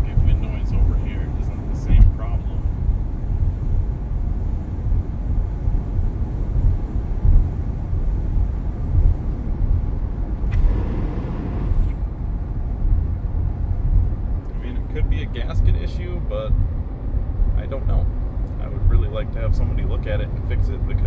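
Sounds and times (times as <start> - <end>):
road rumble inside car: 0.0 - 21.0
wind noise inside car: 0.0 - 21.0.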